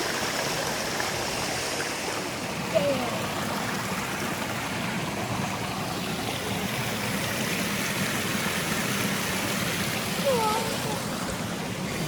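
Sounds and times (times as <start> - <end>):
stream water rushing over rocks: 0.0 - 12.0.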